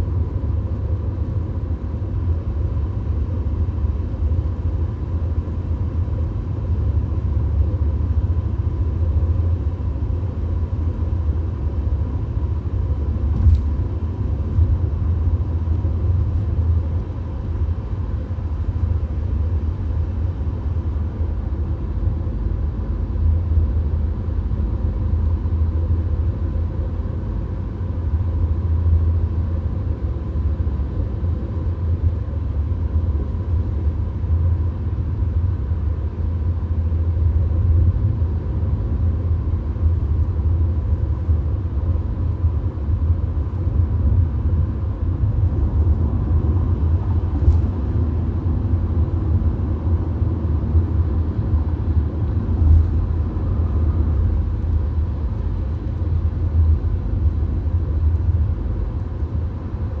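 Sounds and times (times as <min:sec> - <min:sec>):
car cabin road and engine rumble: 0:00.0 - 1:00.0
faint steady whine: 0:00.0 - 1:00.0.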